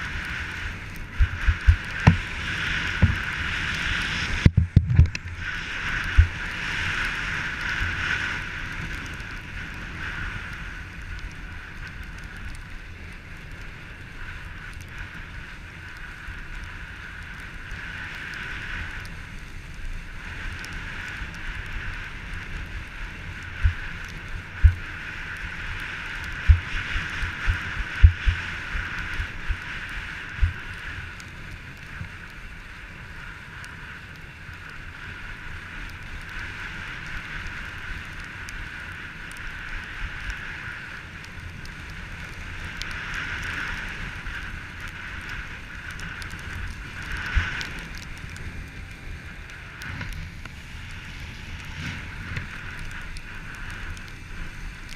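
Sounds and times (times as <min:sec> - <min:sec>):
skis scraping over packed snow: 0:00.0 - 0:54.9.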